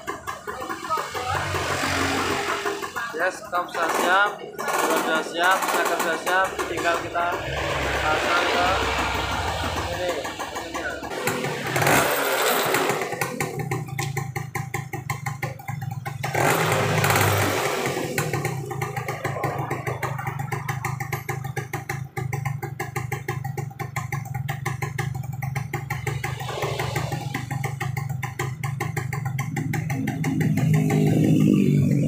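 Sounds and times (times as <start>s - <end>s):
scooter engine revving: 0.0s - 32.0s.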